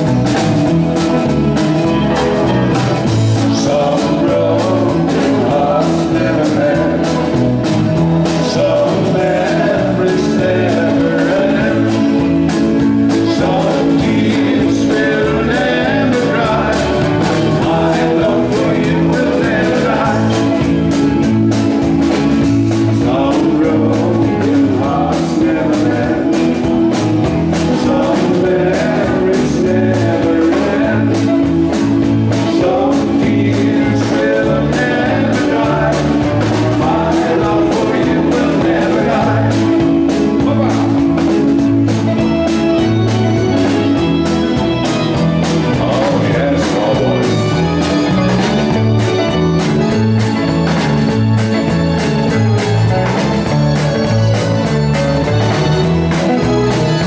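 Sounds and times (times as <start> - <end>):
bass guitar: 0.0 - 57.0
drums: 0.0 - 57.0
electric guitar: 0.0 - 57.0
man singing: 1.9 - 49.4.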